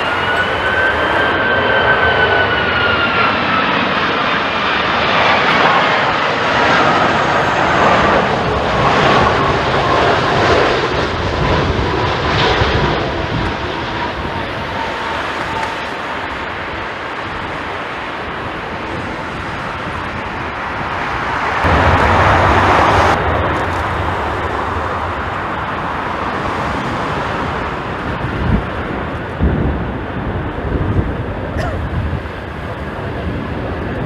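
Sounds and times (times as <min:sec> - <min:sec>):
jet engine noise: 0:00.0 - 0:34.0
wind buffeting microphone: 0:04.9 - 0:34.0.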